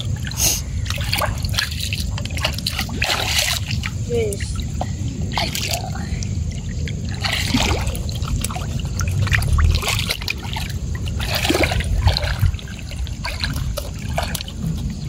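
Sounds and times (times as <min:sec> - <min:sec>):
low rumble: 0:00.0 - 0:15.0
water sloshing in a plastic tub: 0:00.0 - 0:15.0
water splashing: 0:00.0 - 0:15.0.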